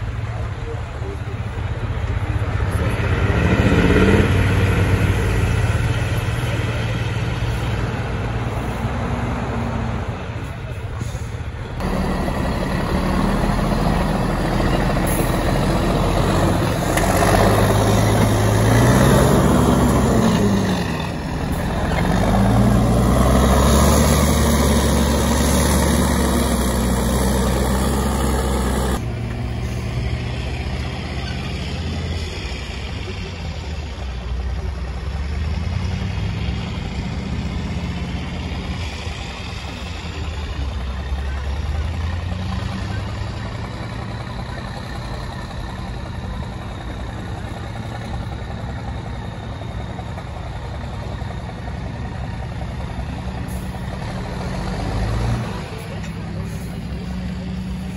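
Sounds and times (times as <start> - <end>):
diesel truck engine revving: 0.0 - 57.9.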